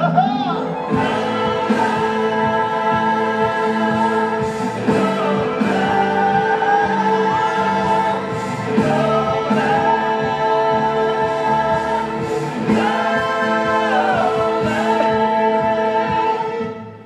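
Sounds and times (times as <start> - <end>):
chorus singing held chords: 0.0 - 17.0
musical backing: 0.0 - 17.0.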